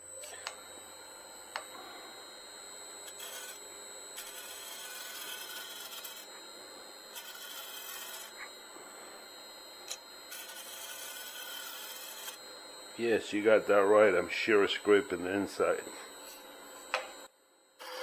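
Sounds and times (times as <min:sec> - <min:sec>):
lathe high tone: 0:00.0 - 0:18.0.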